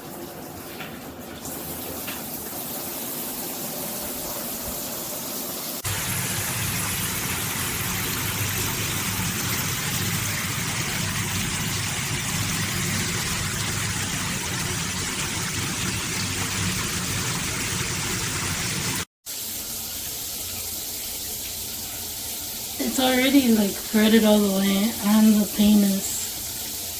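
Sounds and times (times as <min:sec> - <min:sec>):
shower spraying water: 0:00.0 - 0:26.9.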